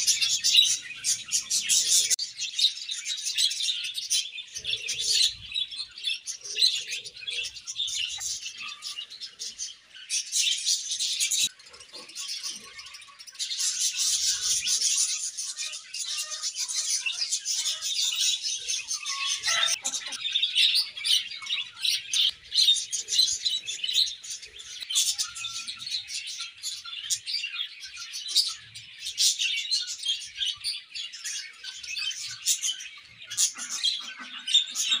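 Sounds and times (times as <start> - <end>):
budgerigars chirping: 0.0 - 2.2, 3.3 - 30.5, 31.1 - 35.0.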